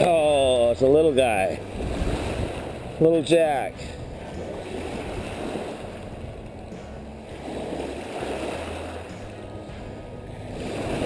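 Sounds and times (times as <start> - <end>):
low steady hum: 0.0 - 11.0
small waves washing: 0.0 - 11.0
wind: 0.0 - 11.0.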